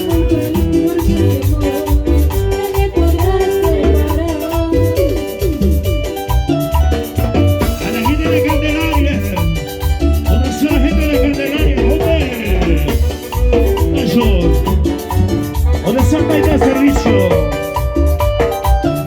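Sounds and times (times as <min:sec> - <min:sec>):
latin dance music: 0:00.0 - 0:19.0.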